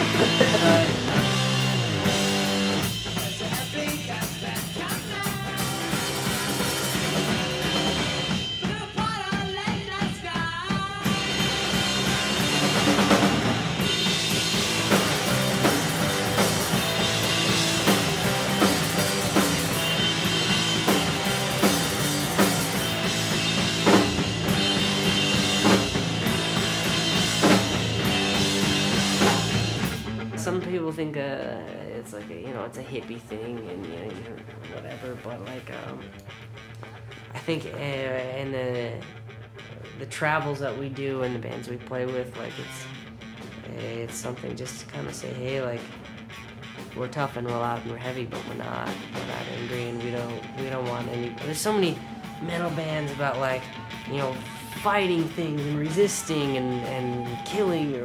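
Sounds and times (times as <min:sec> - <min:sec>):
drum kit beat: 0:00.0 - 0:41.2, 0:42.0 - 0:58.0
loud rock music: 0:00.0 - 0:58.0.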